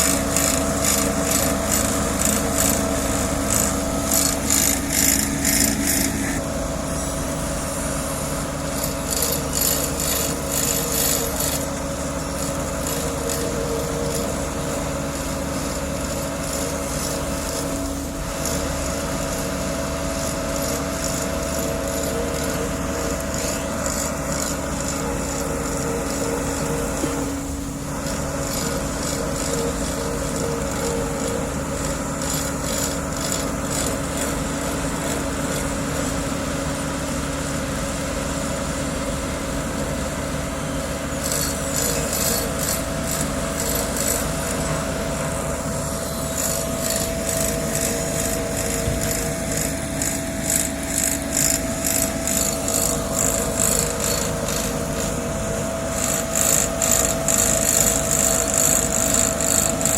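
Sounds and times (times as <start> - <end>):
paving machine engine drone: 0.0 - 59.9.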